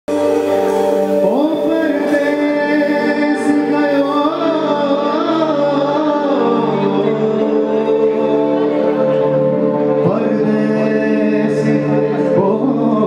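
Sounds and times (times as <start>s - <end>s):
held backing chords: 0.1s - 13.0s.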